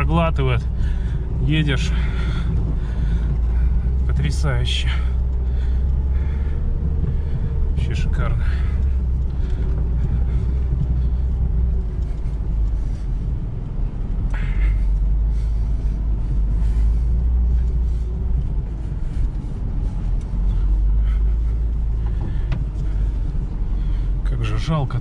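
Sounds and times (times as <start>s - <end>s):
suspension knocks over bumps: 0.0s - 24.3s
engine and tyres rumbling: 0.0s - 25.0s.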